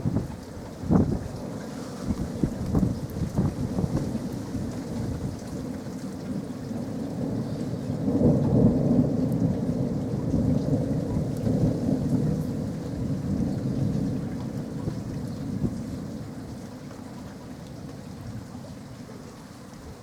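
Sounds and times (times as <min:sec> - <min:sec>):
thunder rumbling: 0:00.0 - 0:18.8
rain falling: 0:00.0 - 0:20.0.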